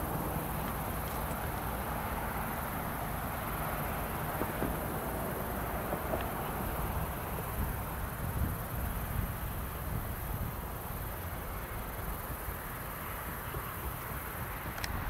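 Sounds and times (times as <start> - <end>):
wind rumbling on microphone: 0.0 - 12.7, 13.3 - 15.0
insects chorus: 0.0 - 15.0.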